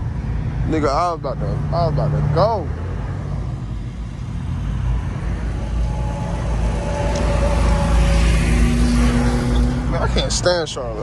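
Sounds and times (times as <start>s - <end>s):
car engine idling: 0.0s - 11.0s
cross traffic passing: 0.0s - 11.0s
truck passing: 0.0s - 11.0s.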